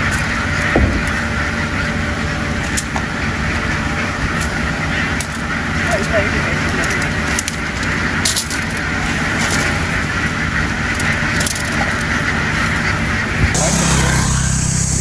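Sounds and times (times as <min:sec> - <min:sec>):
continuous noisy hiss: 0:00.0 - 0:15.0
engine running: 0:00.0 - 0:15.0.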